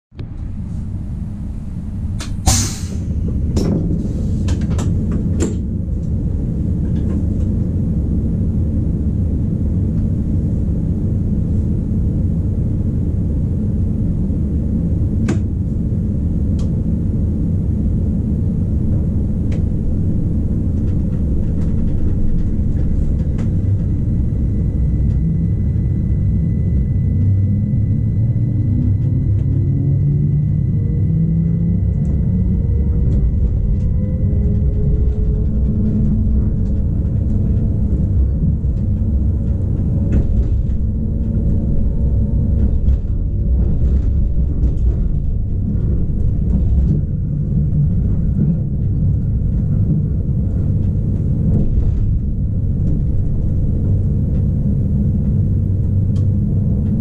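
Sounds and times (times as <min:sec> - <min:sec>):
train hum and rumble: 0:00.1 - 0:57.0.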